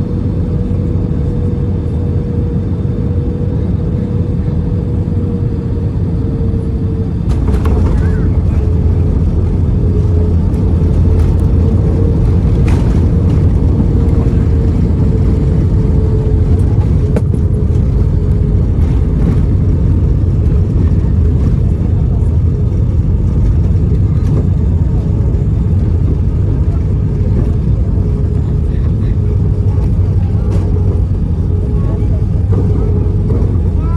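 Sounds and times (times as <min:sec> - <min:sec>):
jet engine and airflow rumble: 0:00.0 - 0:33.9.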